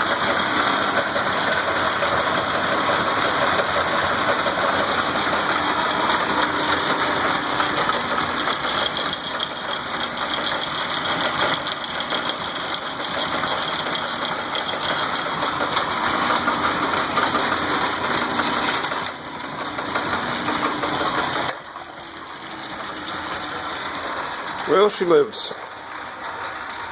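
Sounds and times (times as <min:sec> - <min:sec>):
lathe running with mechanical rattle: 0:00.0 - 0:26.9.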